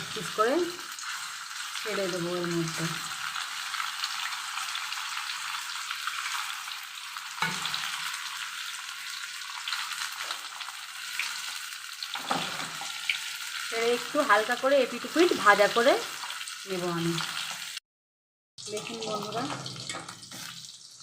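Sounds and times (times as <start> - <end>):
chicken sizzling in hot oil: 0.0 - 17.8, 18.6 - 21.0.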